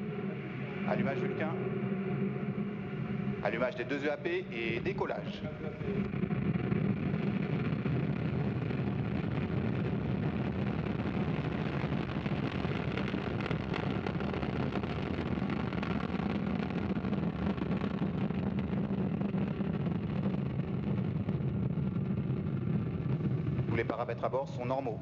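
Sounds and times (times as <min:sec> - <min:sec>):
rocket engine crackle: 0:00.0 - 0:25.0
rocket engine rumbling: 0:00.0 - 0:25.0.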